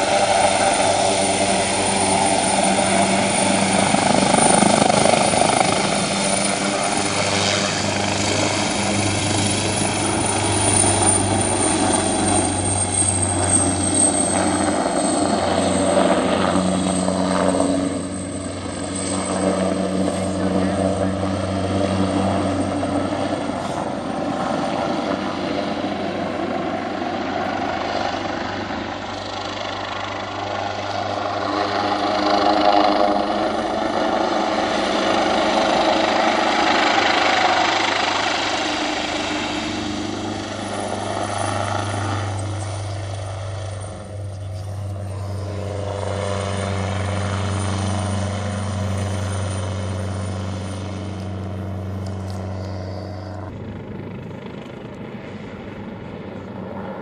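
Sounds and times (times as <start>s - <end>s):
helicopter rotor and turbine whine: 0.0s - 57.0s.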